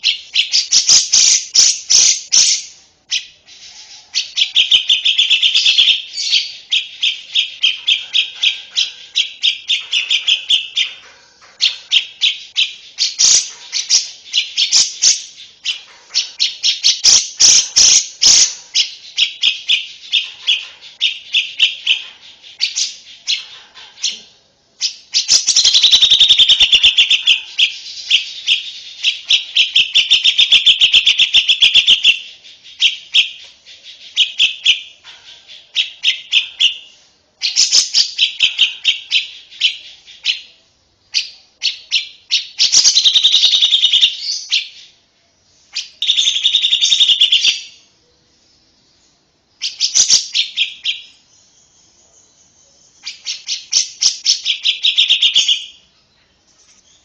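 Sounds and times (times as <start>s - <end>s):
bird singing rapid high chirps: 0.0s - 45.0s, 45.6s - 48.0s, 48.6s - 55.9s.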